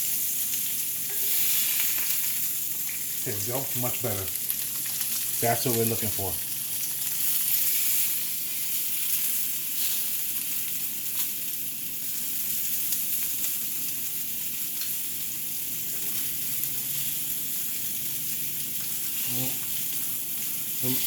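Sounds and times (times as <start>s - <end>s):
squash sizzling on a grill: 0.0s - 21.0s.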